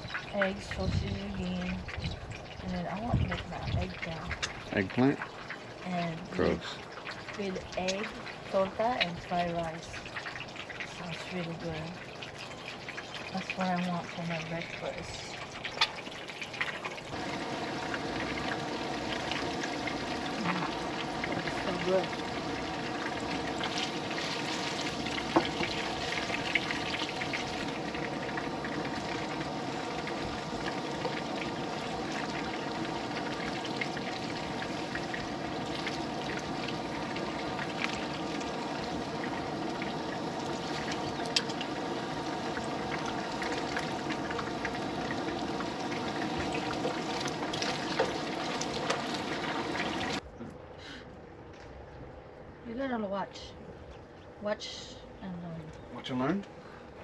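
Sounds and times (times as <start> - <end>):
food sizzling in hot oil: 0.0 - 50.2
oil popping and crackling: 0.0 - 50.2.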